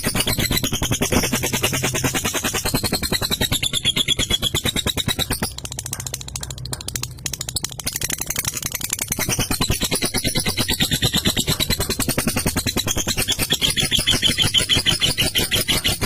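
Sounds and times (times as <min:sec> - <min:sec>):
lovebird chattering trill: 0:00.0 - 0:16.0.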